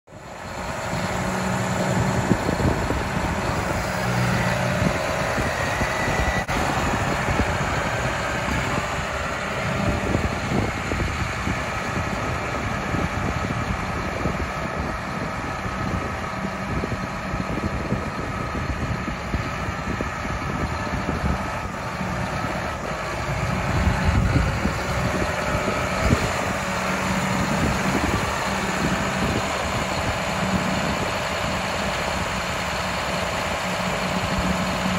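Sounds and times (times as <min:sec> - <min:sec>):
tractor diesel engine driving by: 0:00.1 - 0:34.9.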